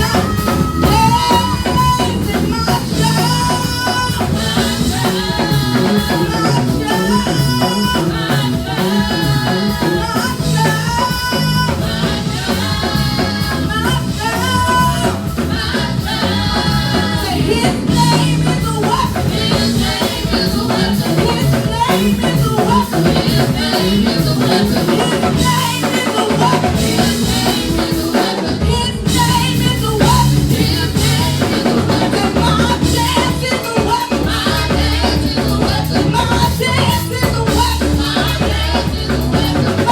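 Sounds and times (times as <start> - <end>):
drum kit: 0.0 - 39.9
people singing: 0.0 - 39.9.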